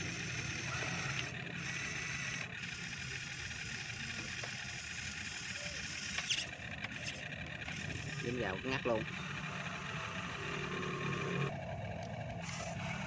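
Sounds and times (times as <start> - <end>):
model excavator motors whining: 0.0 - 13.0.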